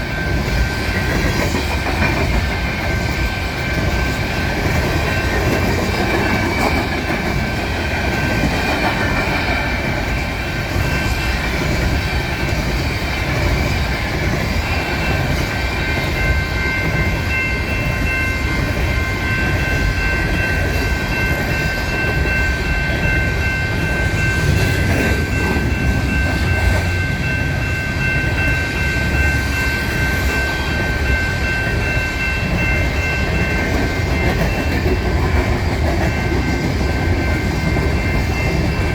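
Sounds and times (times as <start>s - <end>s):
wheels clacking over rail joints: 0.0s - 38.9s.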